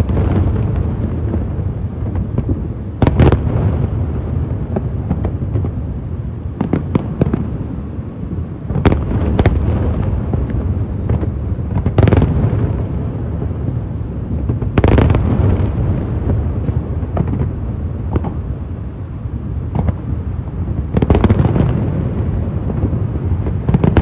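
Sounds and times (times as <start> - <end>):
fireworks bursting with bangs: 0.0 - 24.0
fireworks crackling: 0.0 - 24.0.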